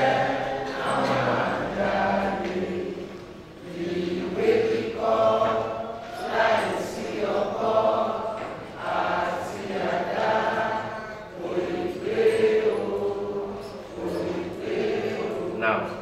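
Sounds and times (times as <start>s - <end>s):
voices chanting together: 0.0s - 16.0s.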